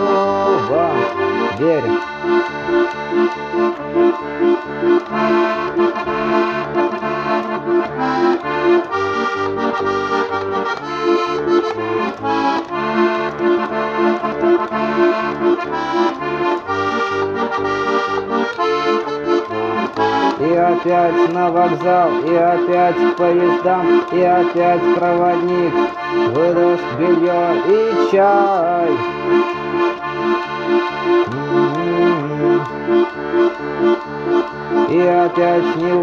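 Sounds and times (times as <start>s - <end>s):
accordion playing: 0.0s - 36.0s.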